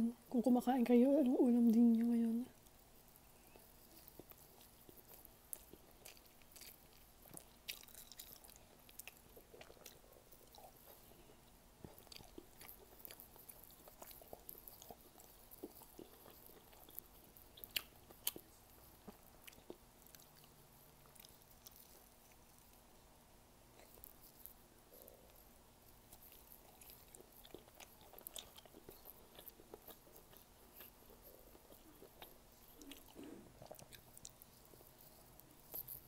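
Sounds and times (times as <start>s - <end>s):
person chewing food: 2.6s - 22.9s, 23.7s - 36.0s.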